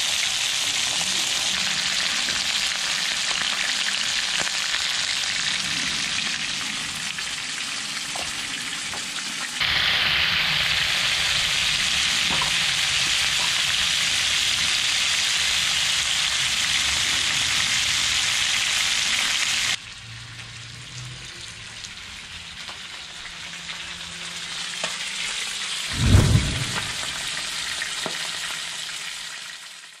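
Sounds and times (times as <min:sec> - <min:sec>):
fish sizzling in oil: 0:00.0 - 0:30.0.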